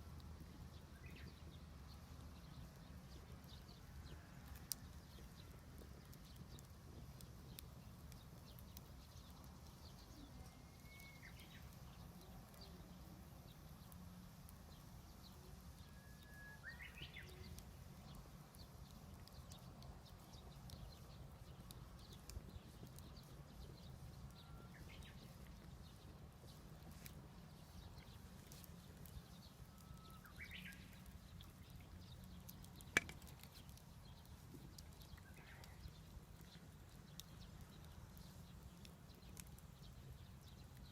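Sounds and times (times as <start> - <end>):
bonfire crackling and popping: 0.0 - 40.9.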